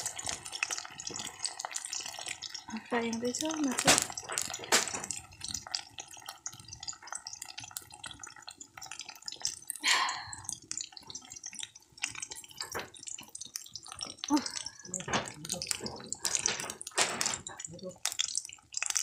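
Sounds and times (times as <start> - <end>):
fish sizzling in hot oil: 0.0 - 19.0
oil popping and spitting: 0.0 - 19.0.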